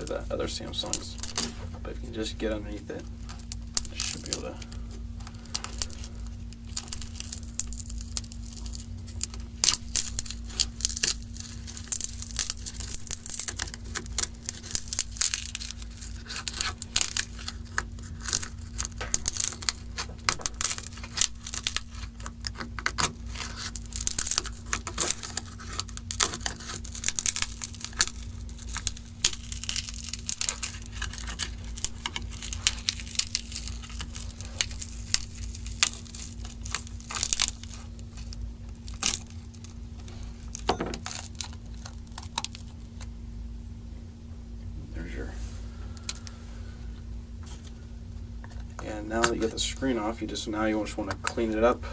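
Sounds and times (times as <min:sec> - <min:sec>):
adhesive peeling crackles: 0:00.0 - 0:43.2, 0:45.0 - 0:51.9.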